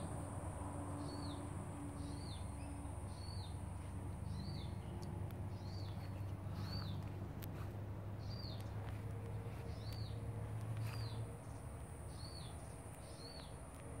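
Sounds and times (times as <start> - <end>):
bird chirping: 0.9 - 7.2, 8.2 - 14.0.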